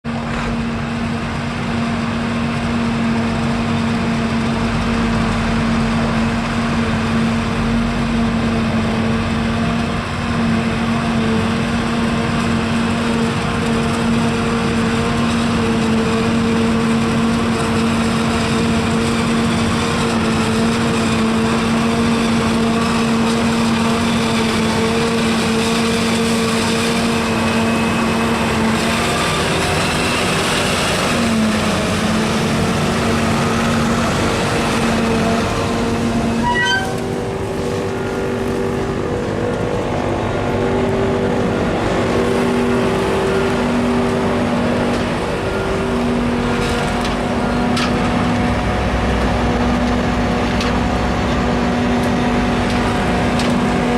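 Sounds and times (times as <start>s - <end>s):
constant machine whine: 0.0s - 53.9s
harvester engine and machinery drone: 0.0s - 53.9s.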